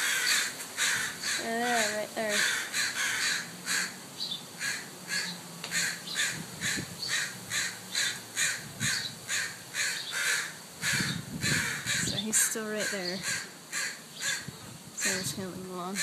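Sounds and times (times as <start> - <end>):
crows cawing: 0.0 - 15.3.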